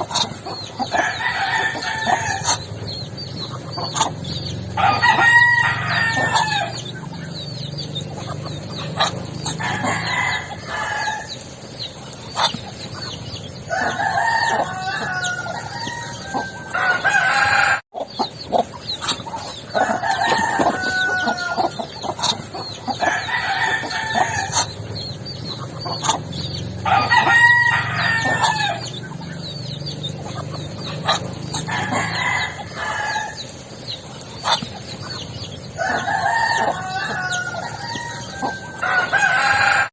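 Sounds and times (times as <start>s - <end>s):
poultry calling: 0.0s - 39.9s.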